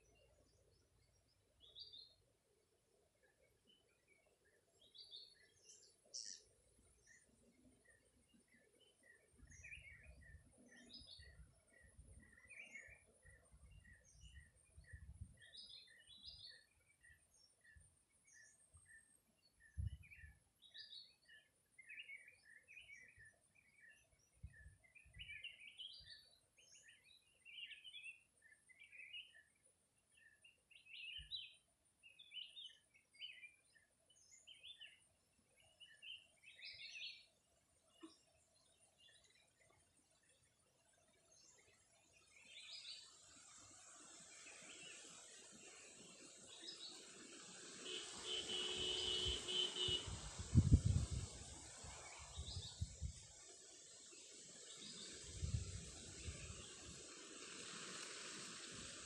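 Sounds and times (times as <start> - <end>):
small birds chirping: 0.0 - 2.3, 3.0 - 59.0.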